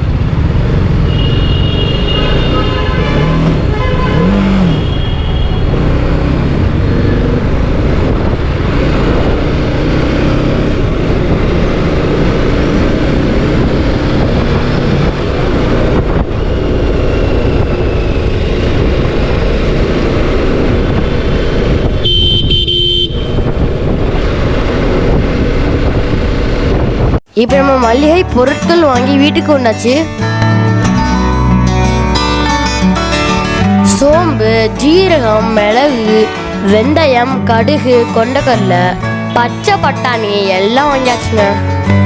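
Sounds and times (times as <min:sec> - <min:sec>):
motorcycle engine rumble: 0:00.0 - 0:42.0
road and wind noise: 0:00.0 - 0:42.0.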